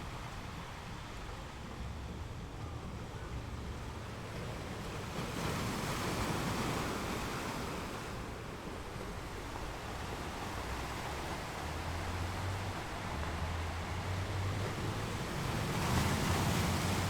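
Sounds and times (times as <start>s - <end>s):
low rumble of surf: 0.0s - 17.0s.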